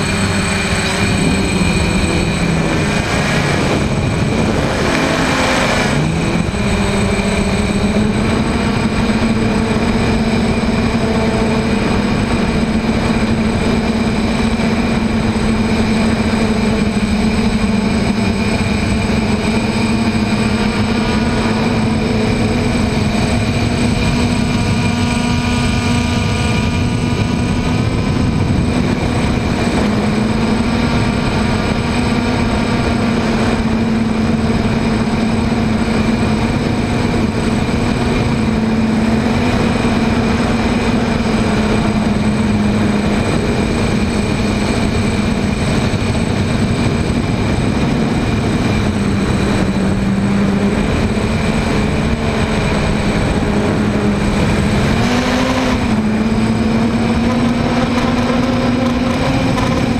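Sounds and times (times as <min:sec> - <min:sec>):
drone propellers whirring: 0:00.0 - 0:59.9
rushing wind: 0:00.0 - 0:59.9.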